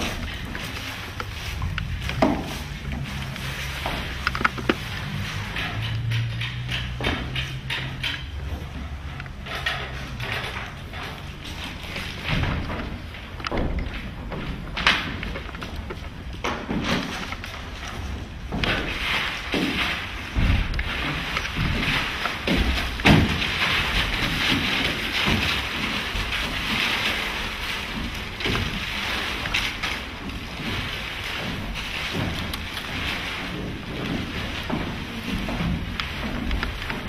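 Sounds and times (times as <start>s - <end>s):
objects knocking and scraping: 0.0s - 37.0s.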